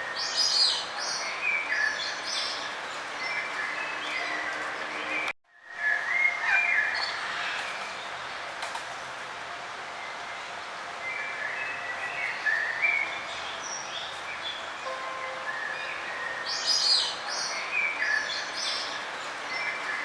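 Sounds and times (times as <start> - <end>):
songbirds chirping and singing: 0.0 - 8.1, 11.0 - 20.0.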